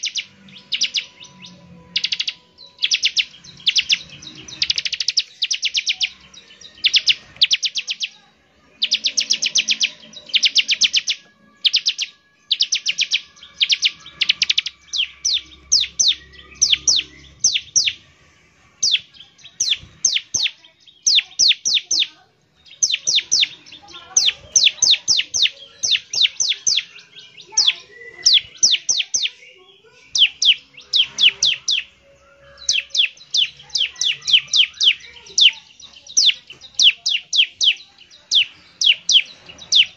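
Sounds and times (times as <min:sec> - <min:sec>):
bird singing rapid sharp notes: 0:00.0 - 0:18.1, 0:18.8 - 0:39.9.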